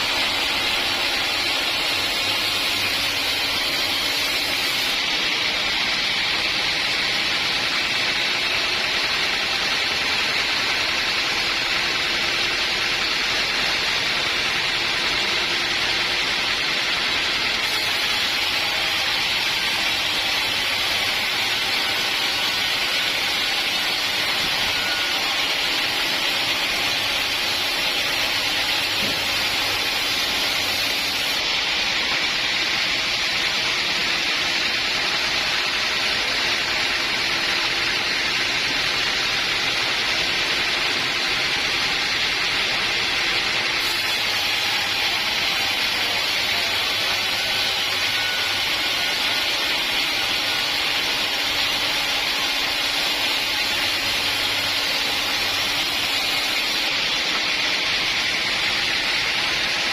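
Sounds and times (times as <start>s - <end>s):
saw hissing through timber: 0.0s - 59.9s.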